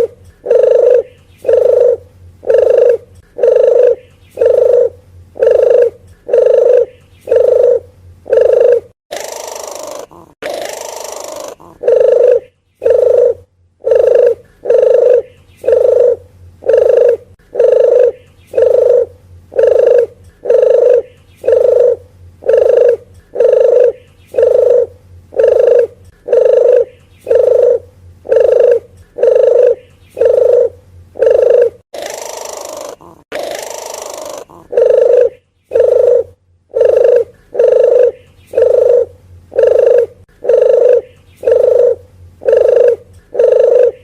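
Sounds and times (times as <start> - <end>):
dove cooing: 0.0 - 44.0.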